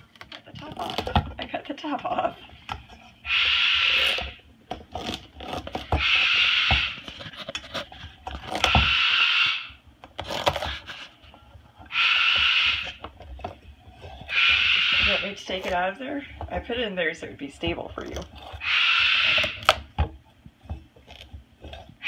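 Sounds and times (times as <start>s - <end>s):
beak scraping squash rind: 0.0s - 20.0s, 20.8s - 22.0s.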